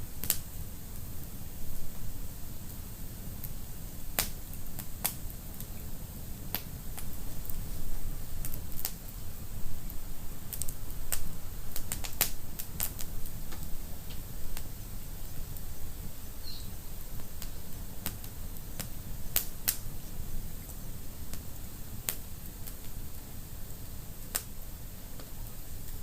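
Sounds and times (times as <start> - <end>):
low rumble of flames: 0.0 - 26.0
wood fire crackling and popping: 0.1 - 26.0.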